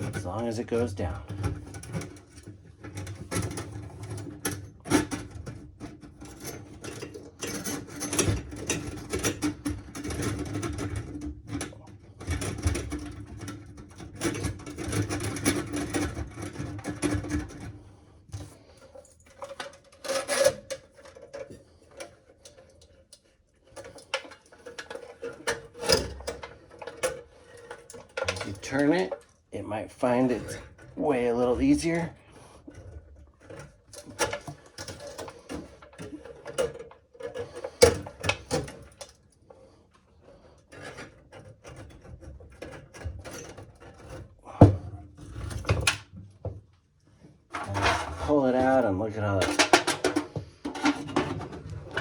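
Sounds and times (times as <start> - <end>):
drain snake cable rattling: 0.0 - 44.6.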